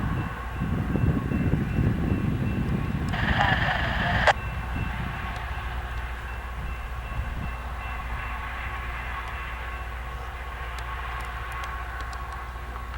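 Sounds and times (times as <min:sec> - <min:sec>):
diesel engines rumbling: 0:00.0 - 0:12.9.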